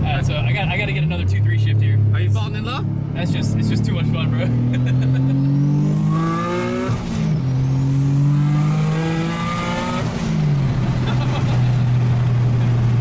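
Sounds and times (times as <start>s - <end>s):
car engine accelerating hard: 0.0s - 13.0s
high turbo whine: 0.0s - 13.0s.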